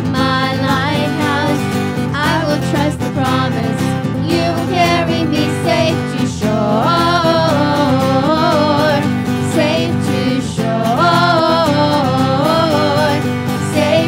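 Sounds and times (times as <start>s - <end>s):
acoustic guitar: 0.0s - 14.0s
women singing worship song: 0.1s - 14.0s.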